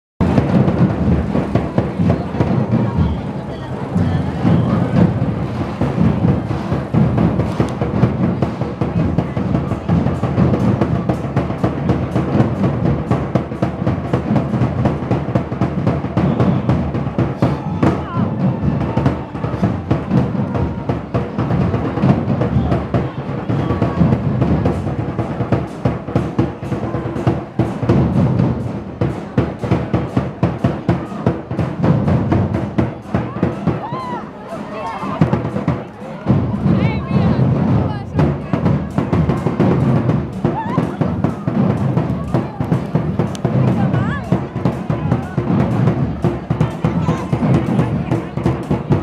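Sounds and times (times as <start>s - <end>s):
music with fast drumming: 0.2s - 49.0s.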